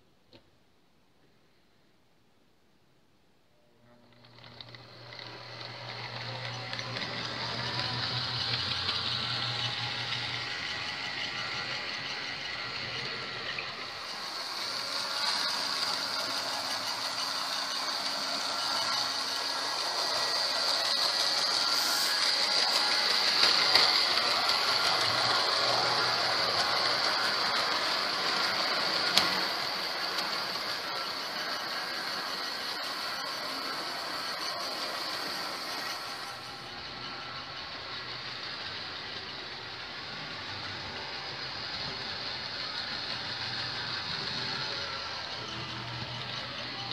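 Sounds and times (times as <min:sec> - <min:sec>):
model train wheels rattling on track: 0:04.1 - 0:46.9
small electric motor whirring: 0:04.1 - 0:46.9.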